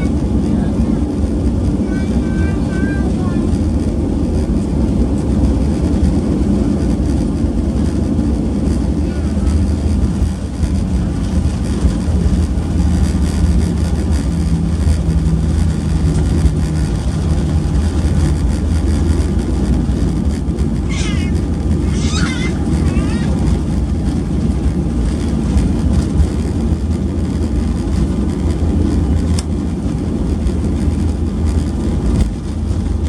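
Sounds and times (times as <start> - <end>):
airplane cabin rumble: 0.0 - 33.0
low hum: 0.0 - 33.0.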